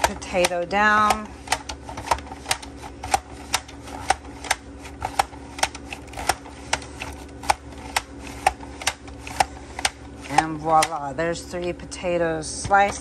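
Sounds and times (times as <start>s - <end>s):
slicer chopping potatoes: 0.0s - 11.2s.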